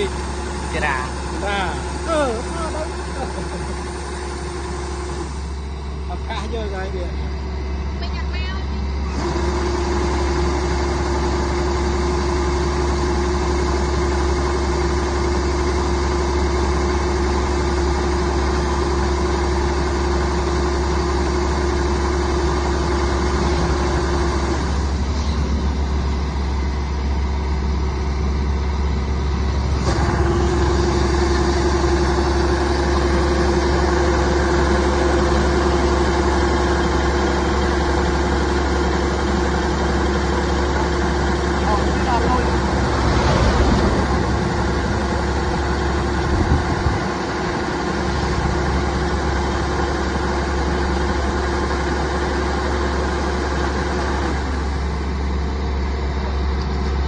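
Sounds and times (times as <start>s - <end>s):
harvester engine running: 0.0s - 57.0s
steady whine: 0.0s - 57.0s.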